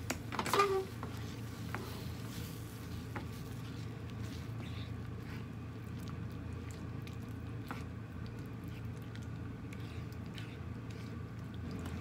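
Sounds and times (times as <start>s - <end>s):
steady low hum: 0.0s - 12.0s
spatula stirring thick sauce: 1.0s - 6.5s, 7.3s - 12.0s.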